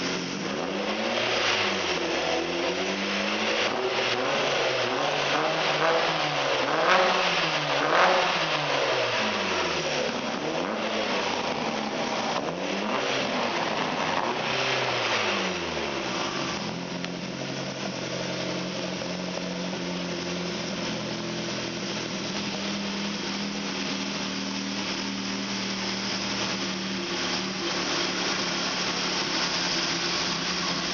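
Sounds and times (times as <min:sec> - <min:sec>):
car engine revving and idling: 0:00.0 - 0:30.9.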